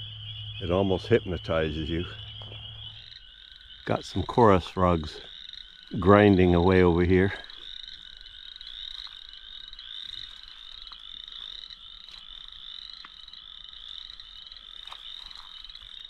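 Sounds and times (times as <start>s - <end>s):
frogs trilling in chorus: 0.0s - 16.0s.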